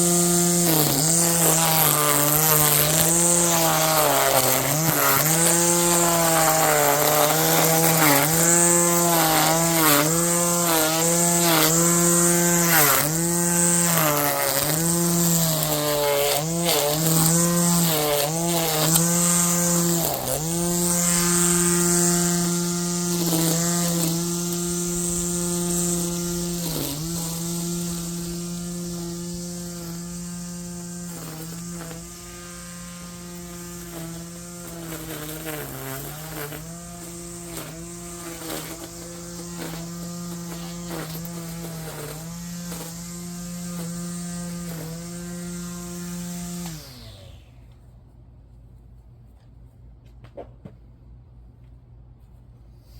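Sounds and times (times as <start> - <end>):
electric lawnmower cutting grass: 0.0 - 47.6.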